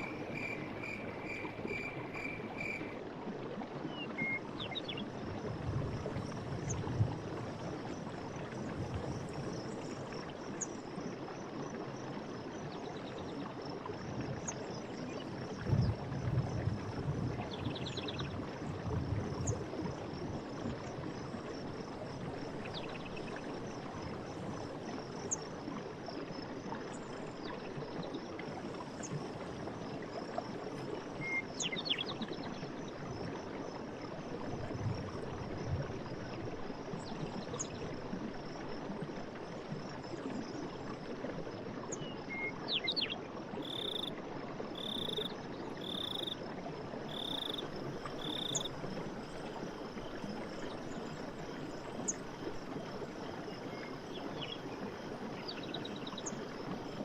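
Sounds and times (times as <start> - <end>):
crickets trilling: 0.0 - 3.0, 13.6 - 57.0
water running with gurgles: 0.0 - 57.0.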